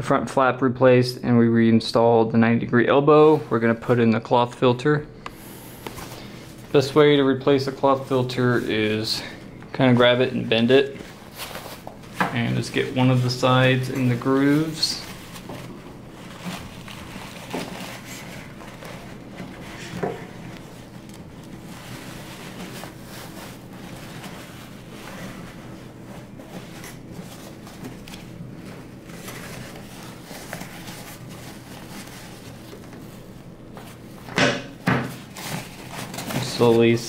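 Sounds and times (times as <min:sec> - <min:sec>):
steady low hum: 0:00.0 - 0:37.0
cloth filter rustling: 0:05.3 - 0:37.0.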